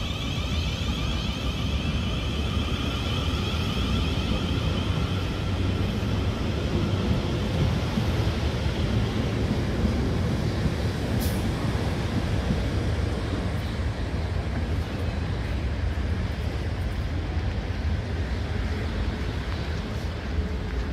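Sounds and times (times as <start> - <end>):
wheels rumbling on rail: 0.0 - 20.9.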